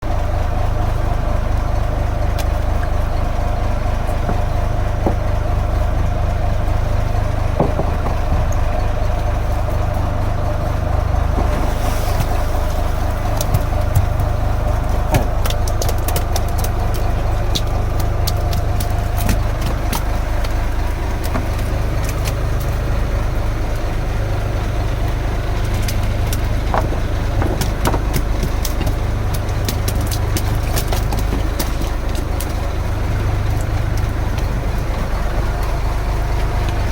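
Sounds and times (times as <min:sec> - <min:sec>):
boat engine rumbling: 0:00.0 - 0:36.9.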